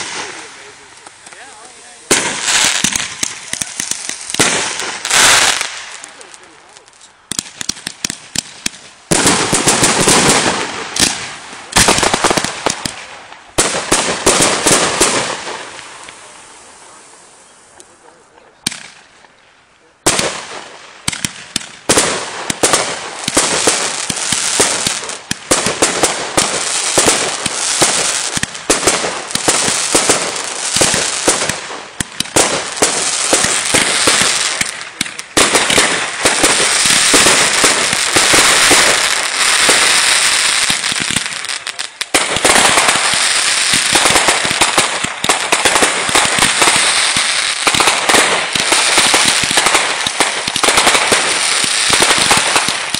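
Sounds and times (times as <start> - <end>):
fireworks bangs and pops: 0.0 - 19.4, 20.0 - 52.9
fireworks crackling: 0.0 - 52.9.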